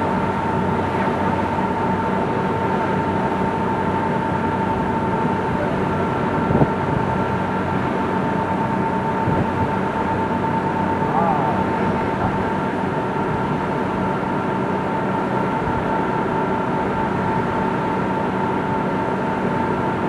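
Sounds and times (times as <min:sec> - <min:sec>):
boat engines droning: 0:00.0 - 0:20.0.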